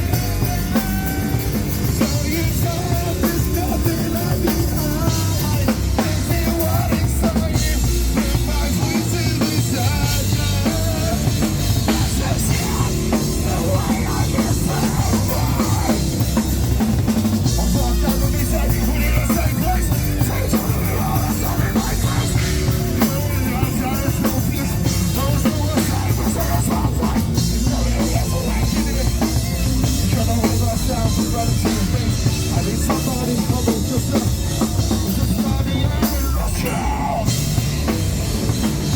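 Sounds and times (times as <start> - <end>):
heavy bass drum: 0.0 - 38.9
live rock band playing: 0.0 - 38.9.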